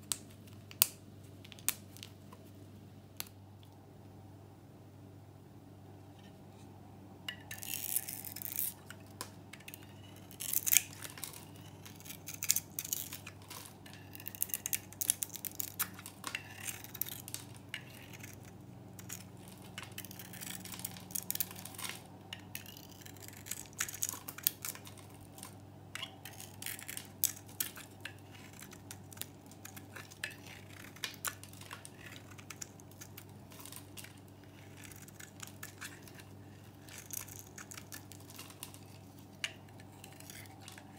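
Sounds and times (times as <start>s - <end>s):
knife shaving soap: 7.5s - 40.9s.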